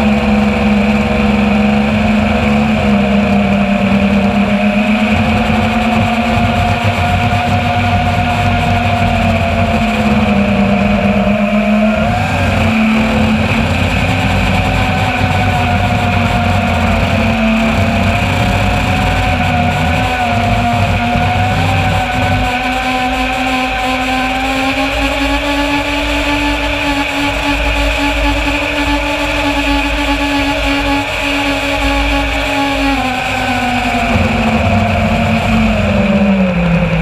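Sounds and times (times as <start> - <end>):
quadcopter motors buzzing: 0.0 - 37.0.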